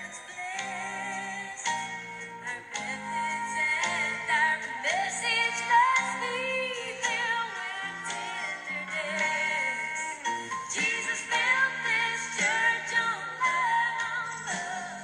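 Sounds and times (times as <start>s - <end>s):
gospel song with band: 0.0s - 15.0s.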